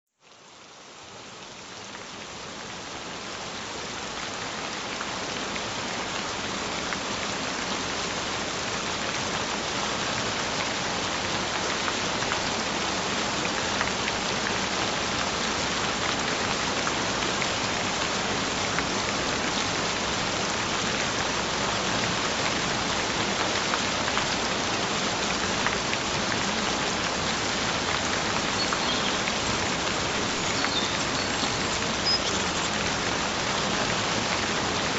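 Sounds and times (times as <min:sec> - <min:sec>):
gentle rain falling: 0:00.1 - 0:34.9.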